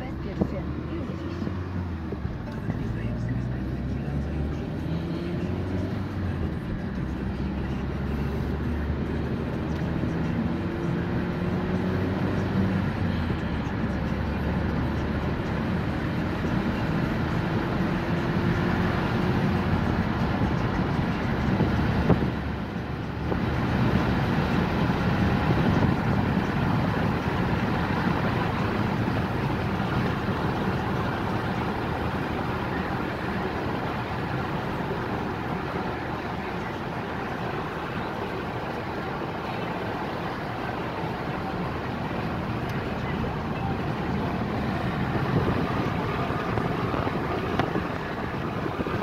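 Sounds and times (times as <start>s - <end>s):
car engine and tyre noise: 0.0s - 49.0s.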